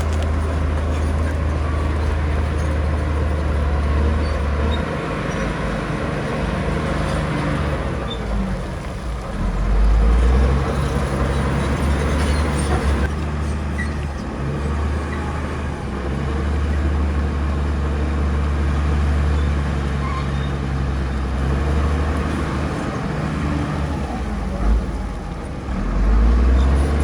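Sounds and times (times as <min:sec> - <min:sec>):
heavy machinery diesel engine: 0:00.0 - 0:27.0.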